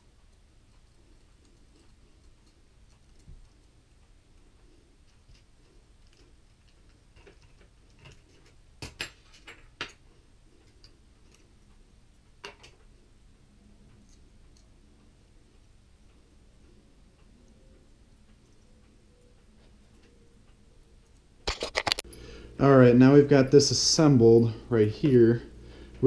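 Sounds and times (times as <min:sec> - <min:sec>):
small parts and tools clicking: 0:00.0 - 0:13.1, 0:13.8 - 0:22.1.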